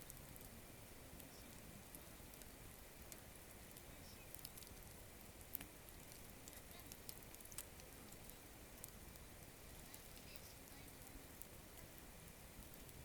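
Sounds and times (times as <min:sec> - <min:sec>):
campfire crackling: 0:00.0 - 0:13.0
low hiss: 0:00.0 - 0:13.0.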